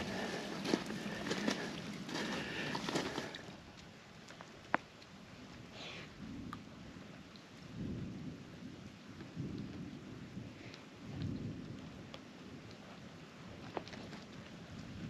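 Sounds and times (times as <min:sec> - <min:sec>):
light rain: 0:00.0 - 0:15.0.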